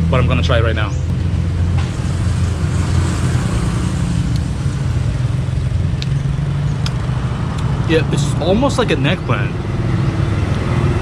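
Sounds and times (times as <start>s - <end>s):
passing vehicles rushing: 0.0s - 11.0s
road traffic engine drone: 0.0s - 11.0s.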